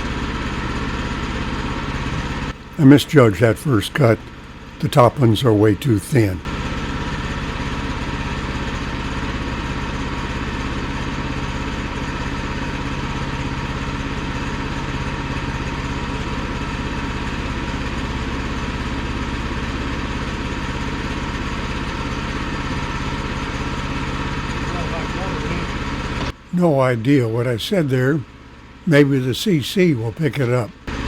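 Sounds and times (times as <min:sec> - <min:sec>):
gas engine running: 0:00.0 - 0:31.0.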